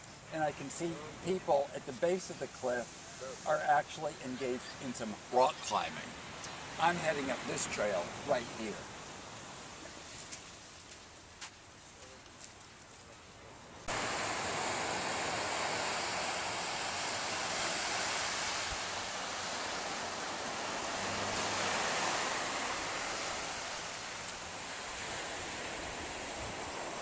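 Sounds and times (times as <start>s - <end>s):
wind: 0.0s - 27.0s
ocean surf breaking: 0.3s - 9.1s, 13.9s - 27.0s.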